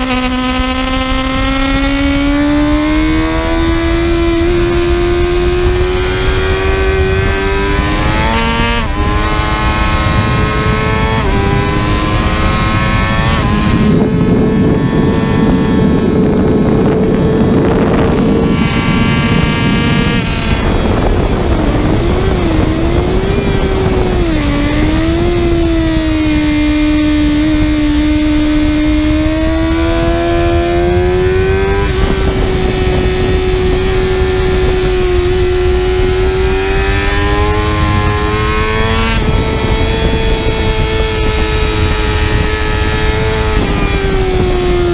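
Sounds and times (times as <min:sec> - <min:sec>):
motorcycle engine revving: 0:00.0 - 0:44.9
wind noise: 0:00.0 - 0:44.9.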